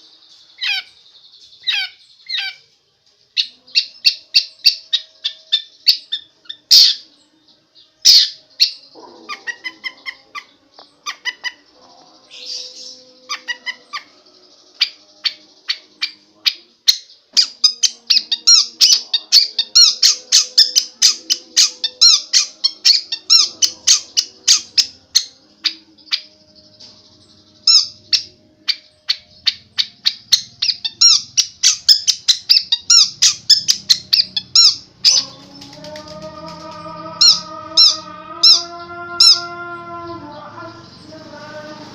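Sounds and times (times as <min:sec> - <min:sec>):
harsh bird calls: 0:00.0 - 0:41.9
bird singing high notes: 0:07.8 - 0:41.9.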